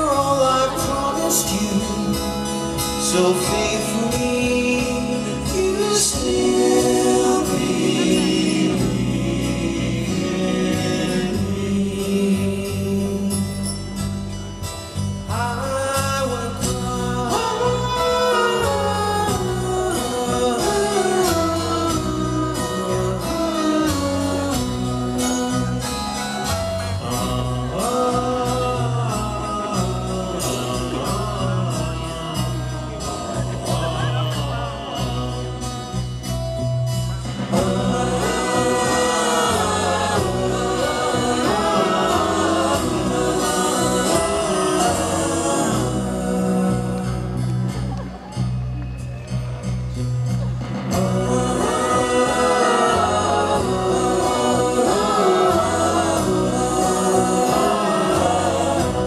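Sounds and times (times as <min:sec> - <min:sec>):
lead and harmony vocals: 0:00.0 - 0:48.6, 0:50.6 - 0:59.0
live band playing pop song: 0:00.0 - 0:59.0
higher group of voices: 0:02.6 - 0:13.2, 0:16.6 - 0:59.0.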